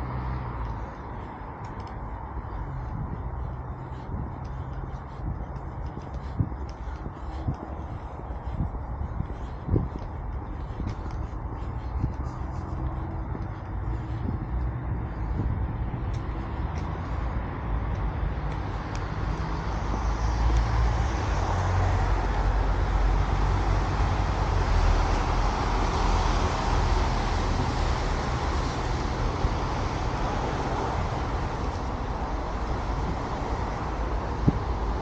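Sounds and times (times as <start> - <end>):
road traffic hum: 0.0 - 35.0
vehicle passing: 0.0 - 35.0.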